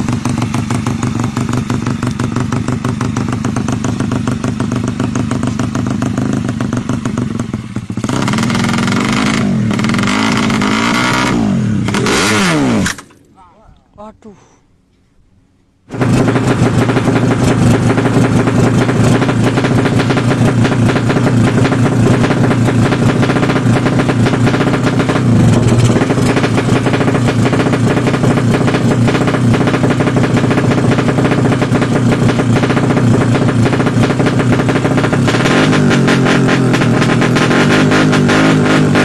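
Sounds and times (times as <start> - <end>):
motorcycle engine running loud: 0.0 - 13.2, 15.9 - 39.0.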